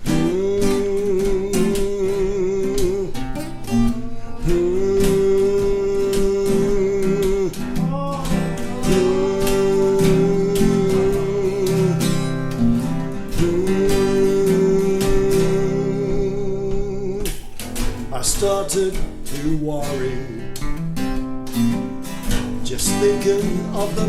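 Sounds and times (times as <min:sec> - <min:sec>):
acoustic bass line: 0:00.0 - 0:24.0
held melody notes: 0:00.0 - 0:24.0
strummed acoustic guitars: 0:00.0 - 0:24.0.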